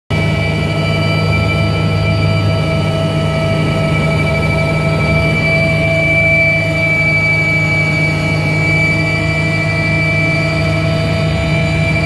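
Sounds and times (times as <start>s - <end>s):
engine and rotor rumble: 0.1s - 12.0s
helicopter turbine whine: 0.1s - 12.0s.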